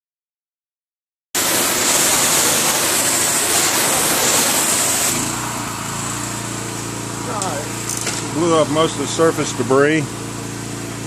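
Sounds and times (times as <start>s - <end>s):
high-pressure water spray hissing: 1.4s - 11.0s
pressure washer engine running: 1.4s - 11.0s.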